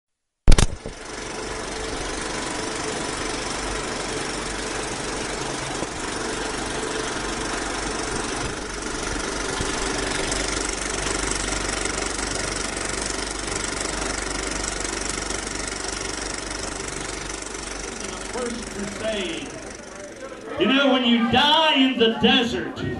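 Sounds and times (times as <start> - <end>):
engine running with fast rattle: 0.5 - 20.6.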